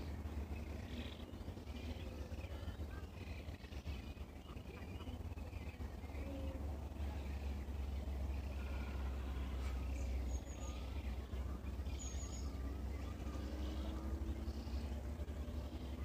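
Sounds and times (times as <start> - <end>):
small birds chirping and trilling: 0.0 - 16.0
steady low rumble: 0.0 - 16.0.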